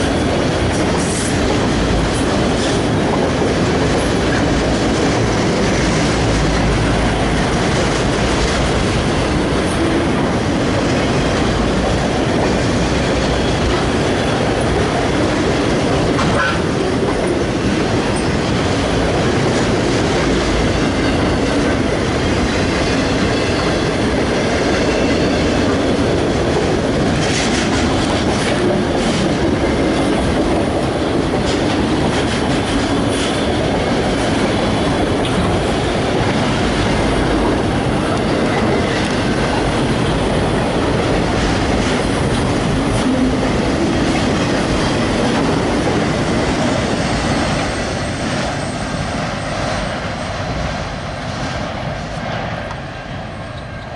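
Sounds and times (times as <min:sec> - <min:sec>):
clickety-clack over rail joints: 0:00.0 - 0:53.9
freight train rumbling: 0:00.0 - 0:53.9.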